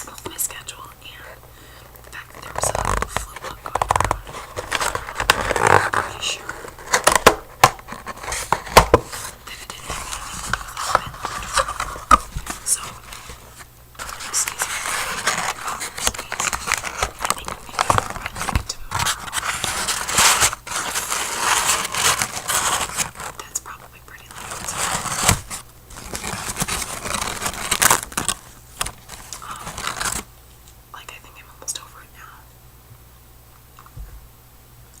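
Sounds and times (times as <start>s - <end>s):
crinkling and rustling handling: 0.0s - 30.8s.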